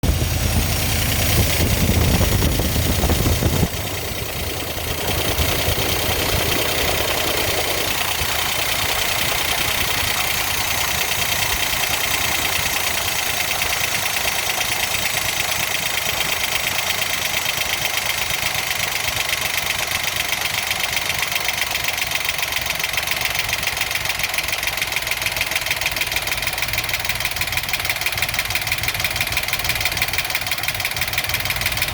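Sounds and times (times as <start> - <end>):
engine idling with knock: 0.0 - 31.9.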